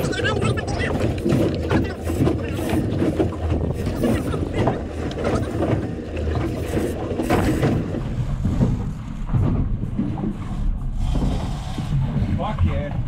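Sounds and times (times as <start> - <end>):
boat engine rumble: 0.0 - 13.0
wind and water noise: 0.0 - 13.0.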